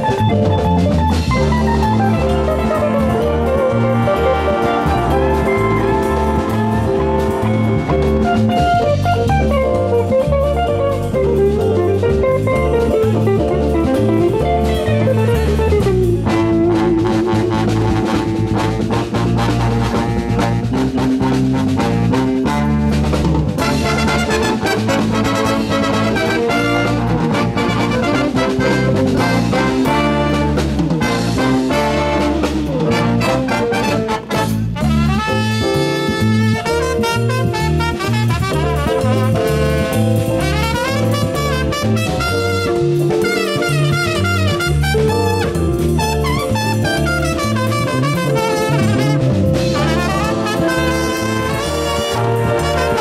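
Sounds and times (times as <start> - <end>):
drum kit: 0.0 - 53.0
jazz big band horns: 0.0 - 53.0.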